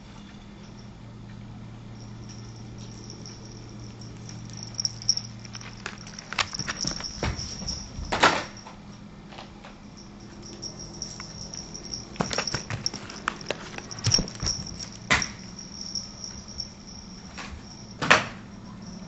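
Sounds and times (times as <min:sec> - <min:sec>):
faint high whine: 0:00.0 - 0:19.0
steady low hum: 0:00.0 - 0:19.0.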